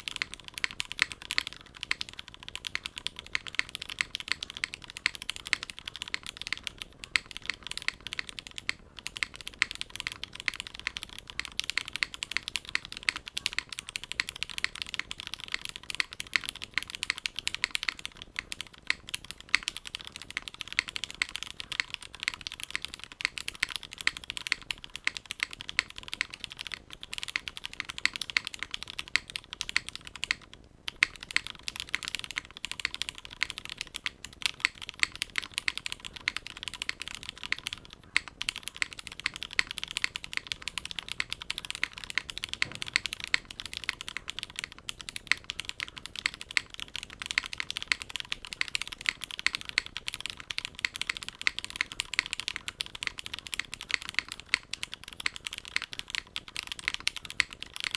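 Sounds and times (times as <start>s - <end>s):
mechanical keyboard typing: 0.0s - 57.9s.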